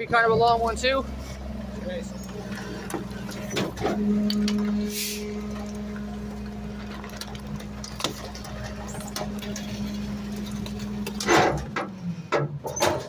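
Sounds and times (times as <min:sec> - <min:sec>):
garbage truck engine humming: 0:00.0 - 0:13.0.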